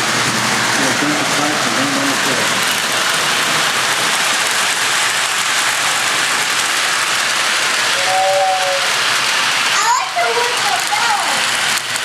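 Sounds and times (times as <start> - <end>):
model trains running on track: 0.0 - 12.0.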